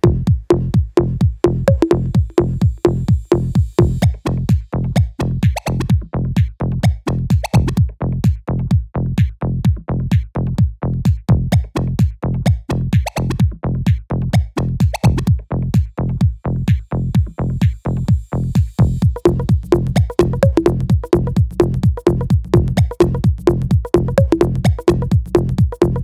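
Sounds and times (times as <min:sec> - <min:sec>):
deep pumping bass line: 0:00.0 - 0:26.0
drum machine kick pattern: 0:00.0 - 0:26.0.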